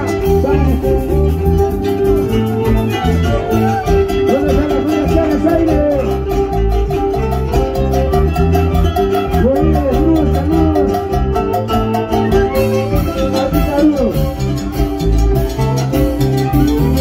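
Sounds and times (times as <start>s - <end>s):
drums: 0.0s - 17.0s
electric bass: 0.0s - 17.0s
harp: 0.0s - 17.0s
ornamented melody line: 0.0s - 17.0s.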